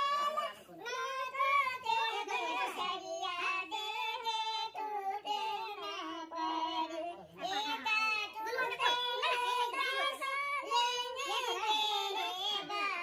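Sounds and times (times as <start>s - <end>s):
high-pitched voices singing: 0.0s - 13.0s.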